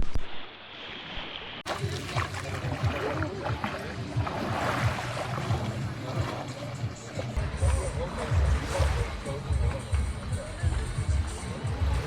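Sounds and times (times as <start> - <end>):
sea water splashing: 0.0 - 12.0.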